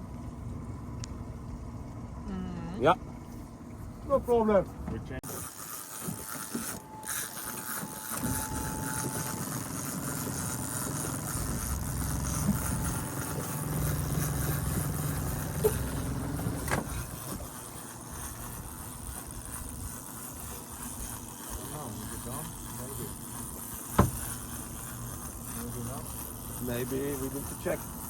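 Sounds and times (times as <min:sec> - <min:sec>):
boat engine low rumble: 0:00.0 - 0:28.0.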